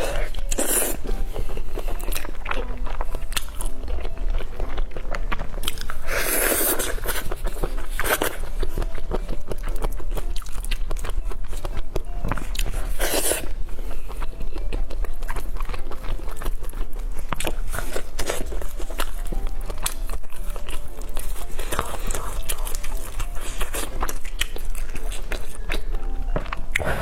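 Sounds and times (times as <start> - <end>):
biting and chewing: 0.0 - 27.0.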